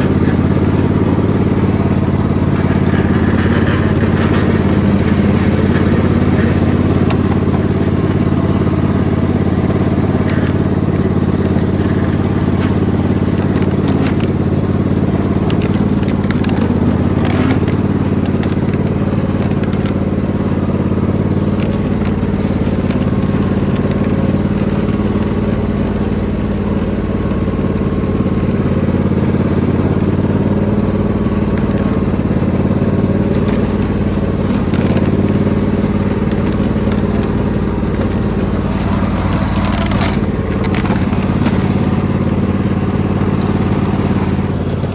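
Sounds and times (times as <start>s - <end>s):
riding lawn mower engine: 0.0s - 44.9s.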